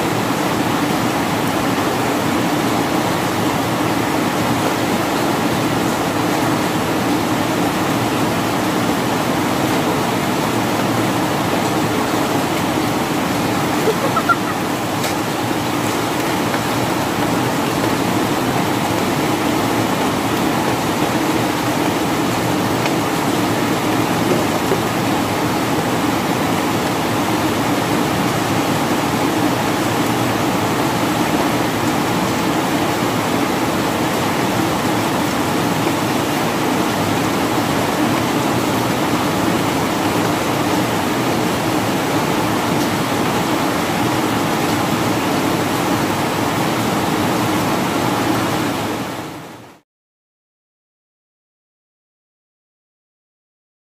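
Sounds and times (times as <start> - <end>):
steady rain falling: 0.0 - 49.8.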